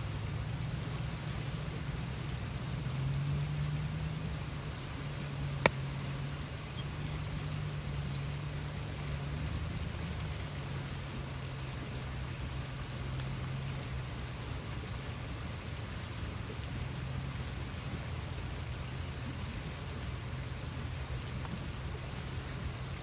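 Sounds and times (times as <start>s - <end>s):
fast-flowing river hiss: 0.0s - 23.0s
low steady hum: 0.0s - 23.0s.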